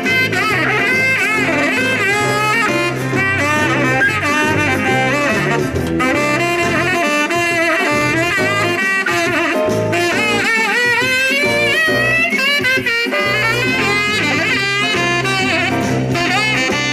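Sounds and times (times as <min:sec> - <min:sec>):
jazz band bass line: 0:00.0 - 0:16.9
saxophone solo: 0:00.0 - 0:16.9.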